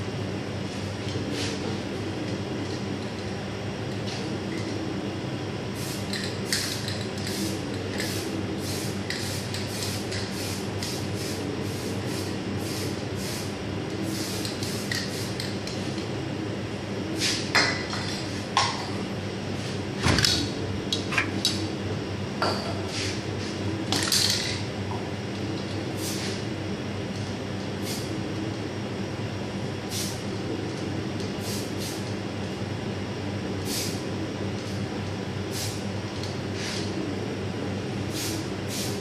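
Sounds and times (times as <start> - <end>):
ventilation hum: 0.0 - 39.0.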